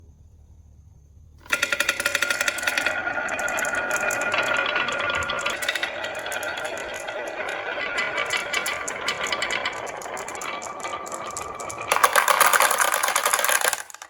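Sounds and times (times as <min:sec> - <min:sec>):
marbles rattling down a track: 0:01.4 - 0:14.0.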